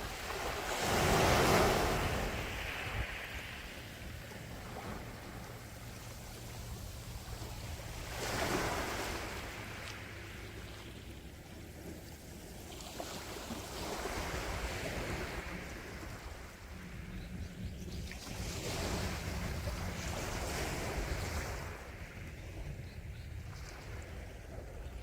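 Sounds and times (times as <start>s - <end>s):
sea waves breaking: 0.0s - 17.0s, 18.1s - 22.3s.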